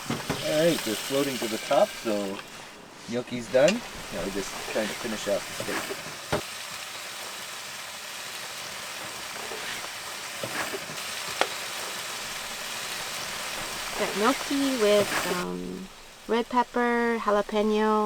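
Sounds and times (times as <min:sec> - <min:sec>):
steak sizzling in a pan: 0:00.0 - 0:18.0.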